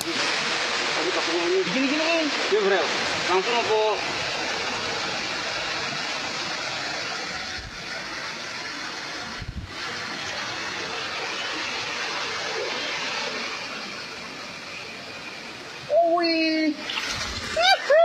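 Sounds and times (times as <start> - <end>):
flowing water: 0.0 - 18.0.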